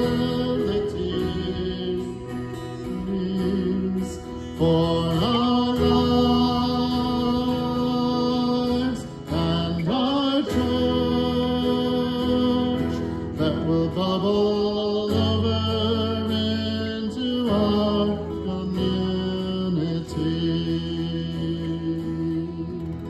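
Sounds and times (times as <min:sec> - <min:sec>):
man singing: 0:00.0 - 0:23.0
strummed acoustic guitar: 0:00.0 - 0:23.0.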